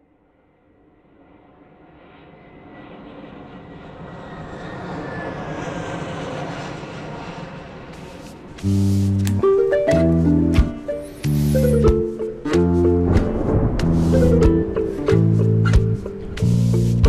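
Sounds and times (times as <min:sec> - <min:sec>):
aircraft drone: 0:00.4 - 0:17.0.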